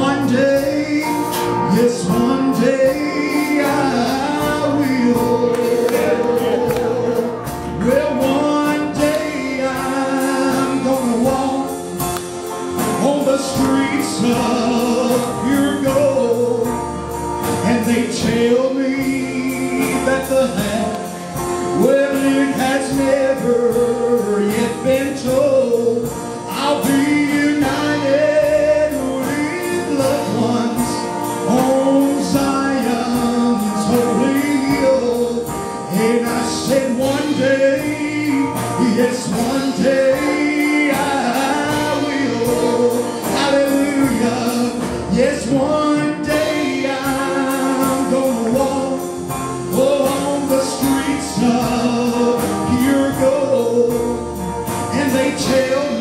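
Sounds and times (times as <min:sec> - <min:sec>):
man singing into microphone: 0:00.0 - 0:12.2, 0:12.8 - 0:56.0
amplified band with electric guitar: 0:00.0 - 0:56.0.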